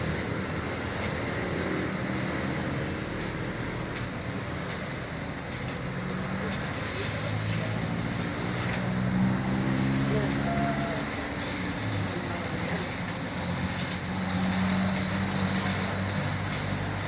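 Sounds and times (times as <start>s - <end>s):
welding arc crackling and hissing: 0.0s - 17.0s.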